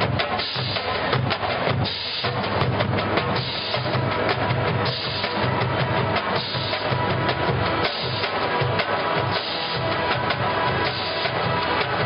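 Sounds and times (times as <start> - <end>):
marching band playing: 0.0 - 12.0
bass drums striking: 1.1 - 12.0.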